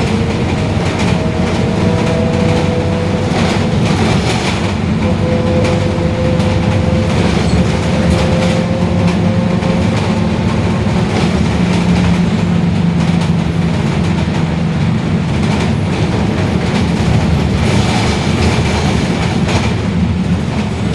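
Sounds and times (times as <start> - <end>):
bus differential whine: 0.0 - 20.9
bus rolling noise: 0.0 - 20.9.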